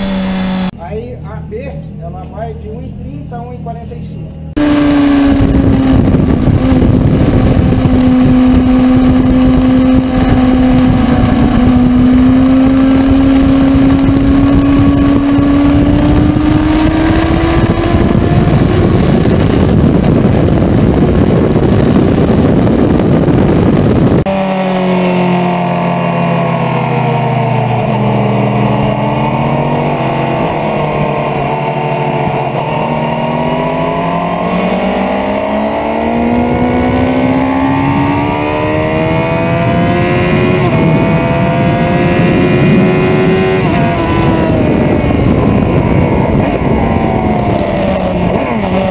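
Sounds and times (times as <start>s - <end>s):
motorcycle engine at speed: 0.0s - 0.8s, 4.4s - 48.9s
wind rush: 4.6s - 24.4s, 25.3s - 48.9s.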